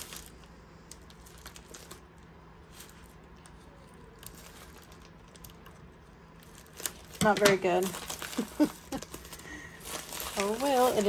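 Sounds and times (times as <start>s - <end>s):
plastic mailer crinkling: 0.0s - 11.0s.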